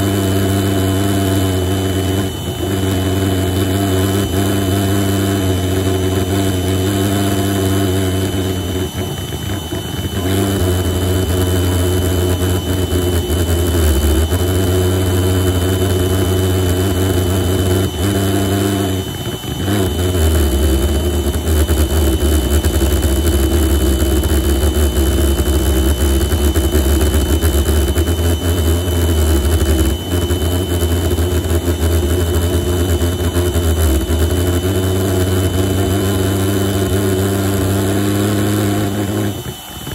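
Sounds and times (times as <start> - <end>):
pulsejet droning: 0.0 - 39.9.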